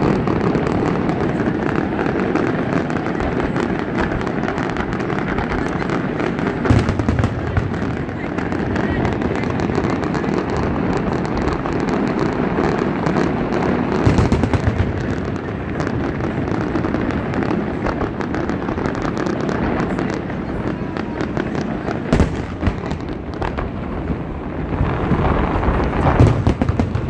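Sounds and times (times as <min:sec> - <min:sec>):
fireworks crackling and banging: 0:00.0 - 0:27.0.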